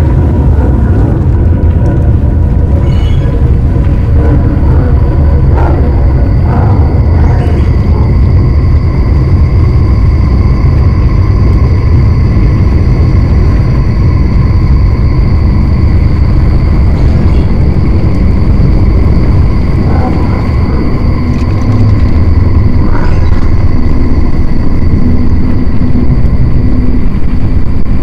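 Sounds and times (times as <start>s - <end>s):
deep rumble: 0.0s - 28.0s.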